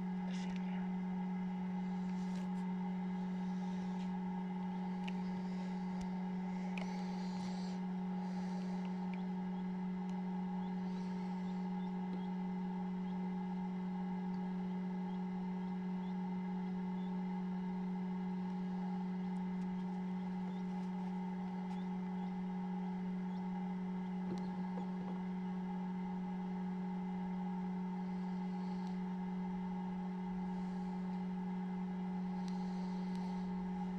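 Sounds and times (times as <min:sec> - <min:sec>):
fan motor humming: 0:00.0 - 0:33.9.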